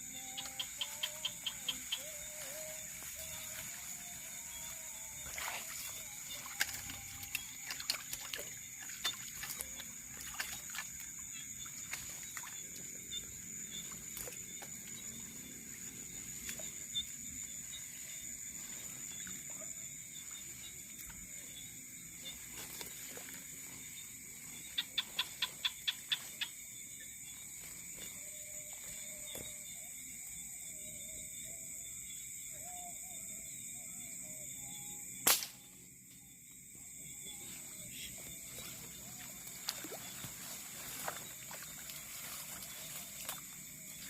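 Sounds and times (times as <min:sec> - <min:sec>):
night insects droning: 0:00.0 - 0:44.0.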